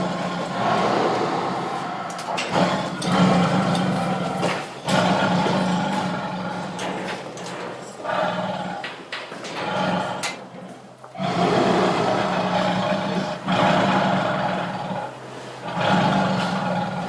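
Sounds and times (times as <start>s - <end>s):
tiger roaring and growling: 0.0s - 17.0s.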